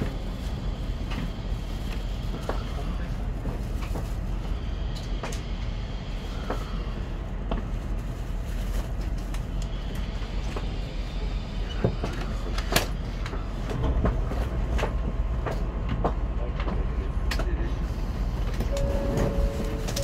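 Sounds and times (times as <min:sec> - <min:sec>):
train carriage low rumble: 0:00.0 - 0:20.0.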